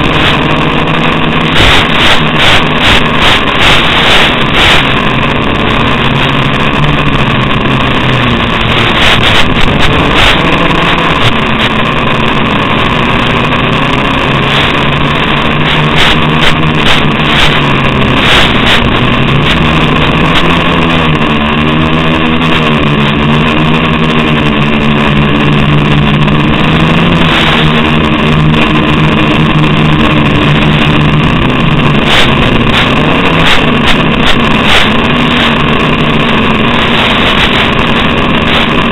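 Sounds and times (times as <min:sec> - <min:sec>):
drone propellers whining: 0:00.0 - 0:38.9.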